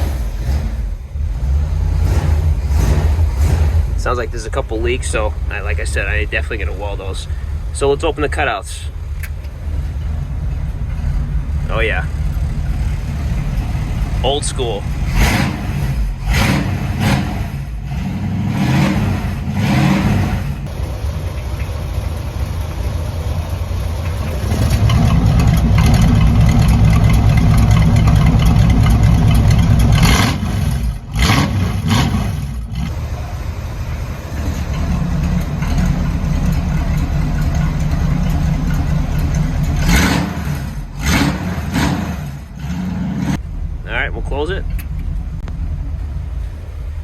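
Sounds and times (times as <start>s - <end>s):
loud unmuffled car engine revving: 0.0s - 47.0s.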